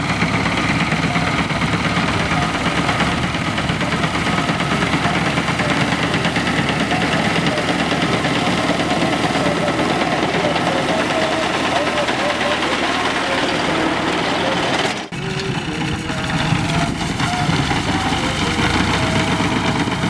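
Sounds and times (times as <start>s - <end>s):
diesel tractor engine running: 0.0s - 20.0s
thresher mechanical clatter: 0.0s - 20.0s.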